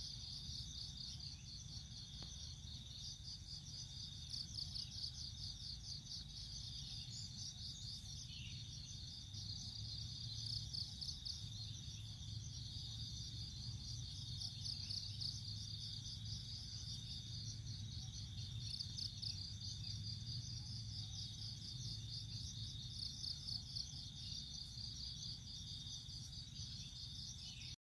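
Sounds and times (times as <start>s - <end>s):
insects chirping: 0.0s - 27.8s.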